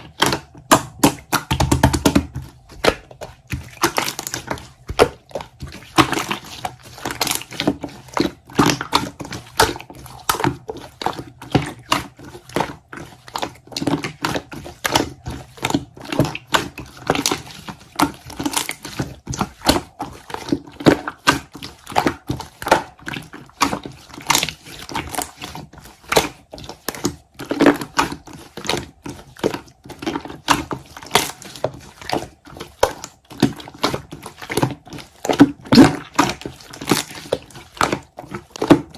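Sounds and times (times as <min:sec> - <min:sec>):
slime squished by hand: 0:00.0 - 0:38.9.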